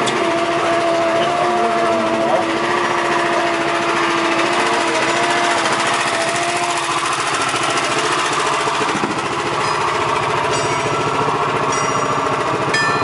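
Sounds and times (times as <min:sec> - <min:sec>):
boat engine chugging: 0:00.0 - 0:13.0
steady whine: 0:00.0 - 0:13.0.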